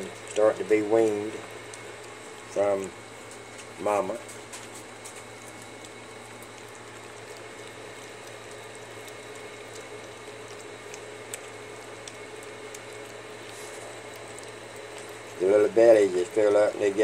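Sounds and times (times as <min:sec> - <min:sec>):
low background hum: 0:00.0 - 0:17.0
puppies lapping food: 0:00.0 - 0:17.0.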